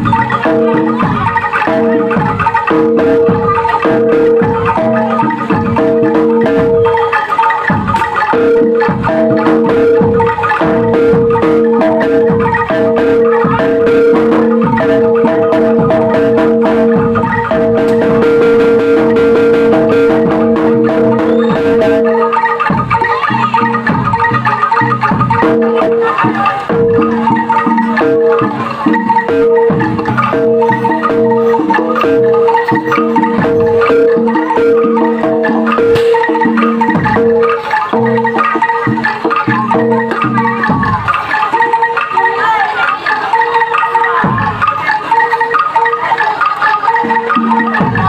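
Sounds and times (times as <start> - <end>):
drum strokes: 0.0 - 48.0
metallophone melody: 0.0 - 48.0.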